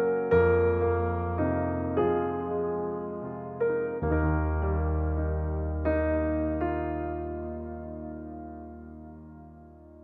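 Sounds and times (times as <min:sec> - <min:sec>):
slow piano-like keyboard notes: 0:00.0 - 0:10.0.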